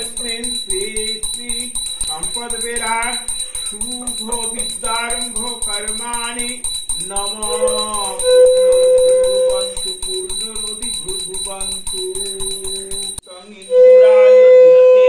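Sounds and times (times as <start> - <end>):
devotional singing: 0.0 - 13.1
bell ringing rapidly: 0.0 - 13.9.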